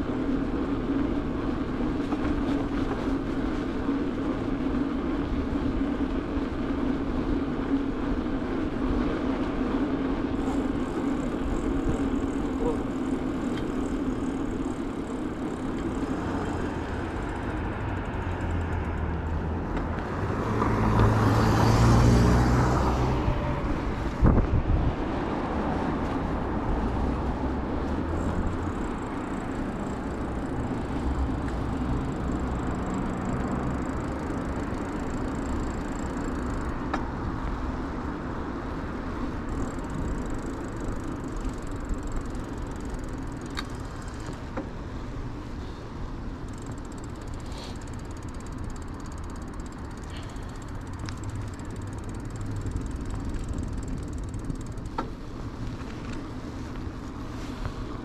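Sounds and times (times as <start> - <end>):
bicycle rolling on asphalt: 0.0 - 58.0
motor vehicle passing: 8.9 - 38.2, 38.8 - 58.0.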